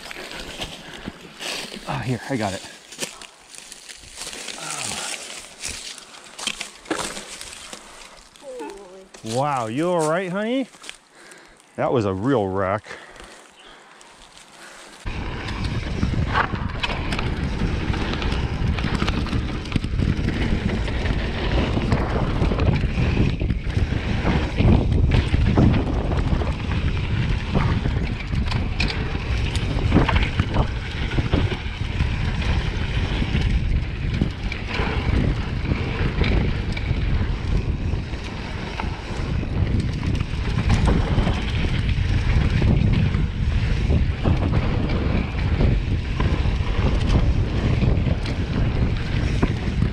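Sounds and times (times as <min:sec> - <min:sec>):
wind buffeting microphone: 0:00.0 - 0:49.9
bike clattering over bumps: 0:02.8 - 0:08.4, 0:14.3 - 0:49.9.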